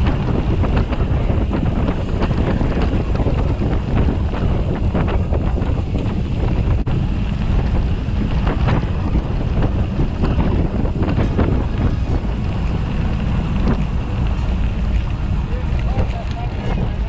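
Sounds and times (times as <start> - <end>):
loose stones crackling: 0.0 - 17.0
tyres crunching on gravel: 0.0 - 17.0
wind buffeting microphone: 0.0 - 17.0.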